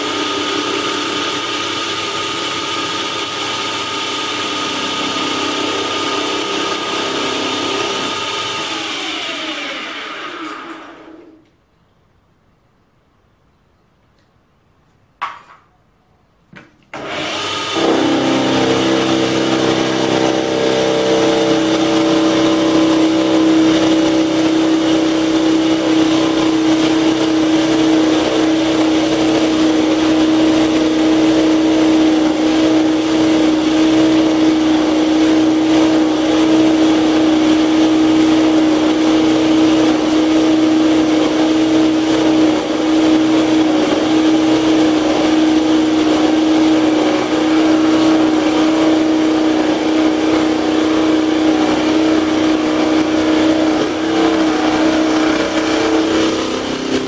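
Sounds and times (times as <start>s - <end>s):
lathe motor whine: 0.0s - 11.4s, 17.0s - 57.0s.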